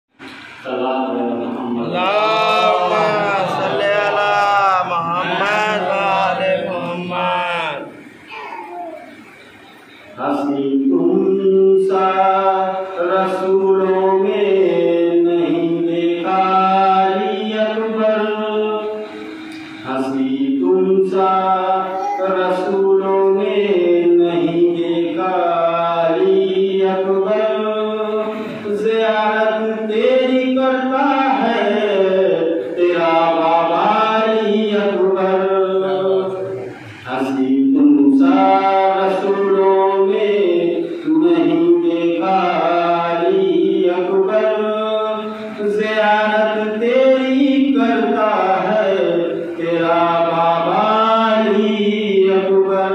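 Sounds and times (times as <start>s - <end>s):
man chanting: 0.6s - 8.3s, 10.1s - 52.9s.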